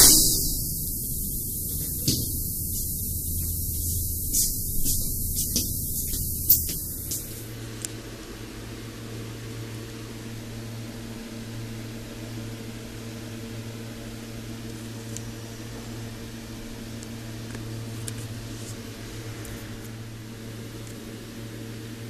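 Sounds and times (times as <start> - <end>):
transformer mains hum: 0.0 - 22.0.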